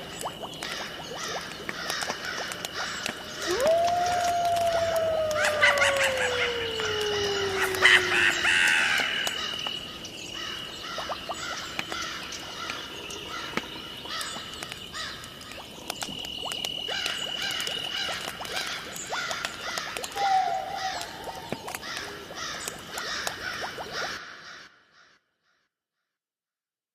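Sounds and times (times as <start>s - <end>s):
insects chirping: 0.0s - 23.6s
frogs croaking: 0.0s - 24.7s.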